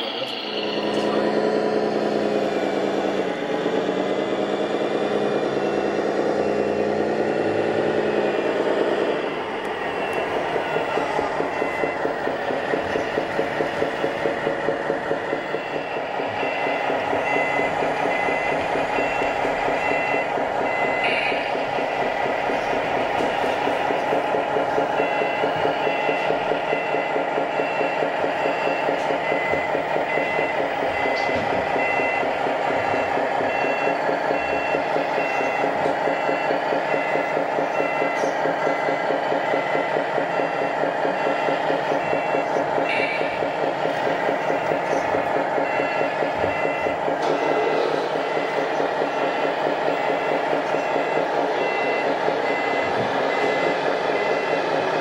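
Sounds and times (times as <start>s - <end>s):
diesel engine sound from loudspeakers: 0.0s - 55.0s
two-tone reversing beeper: 0.0s - 55.0s.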